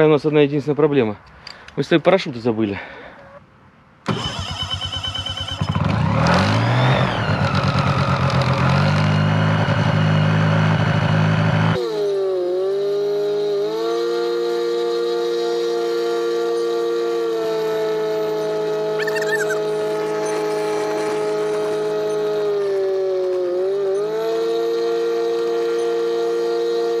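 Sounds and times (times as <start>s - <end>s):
propeller engine starting and running: 4.1s - 27.0s.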